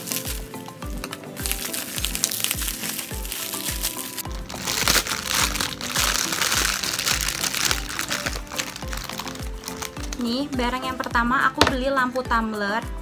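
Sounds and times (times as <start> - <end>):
plastic packet crinkling: 0.0 - 11.1
music with steady beat: 0.0 - 13.0.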